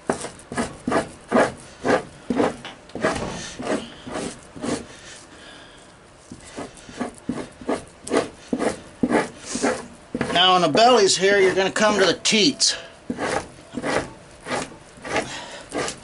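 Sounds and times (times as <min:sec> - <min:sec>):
knife scraping hide: 0:00.0 - 0:05.3, 0:06.3 - 0:16.0.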